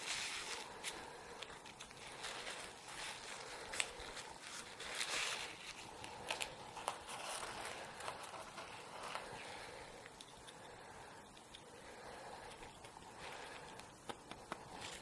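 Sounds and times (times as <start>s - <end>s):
paper tissue rustling: 0.0s - 9.9s, 12.6s - 15.0s.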